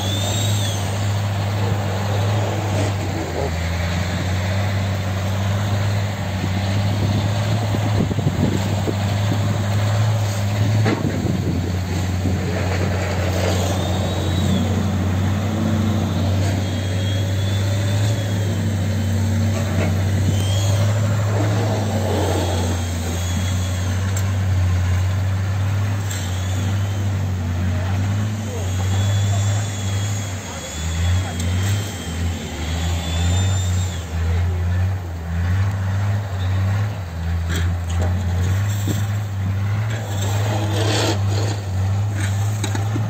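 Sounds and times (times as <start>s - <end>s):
truck engine running under load: 0.0s - 43.0s.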